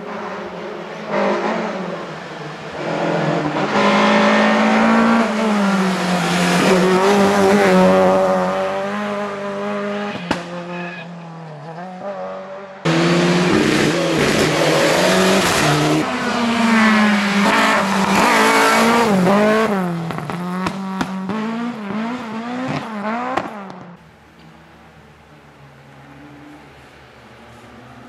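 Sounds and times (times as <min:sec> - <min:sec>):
rally car engines at full throttle: 0:00.0 - 0:28.0.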